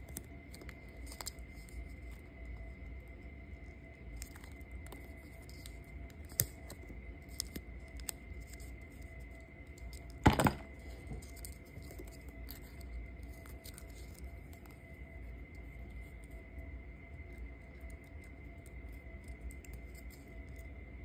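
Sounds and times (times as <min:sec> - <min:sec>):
faint high-pitched whine: 0:00.0 - 0:21.0.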